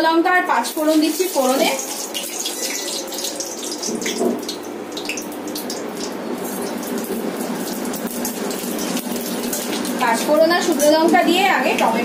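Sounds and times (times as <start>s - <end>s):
spices sizzling in hot oil: 0.4s - 12.0s.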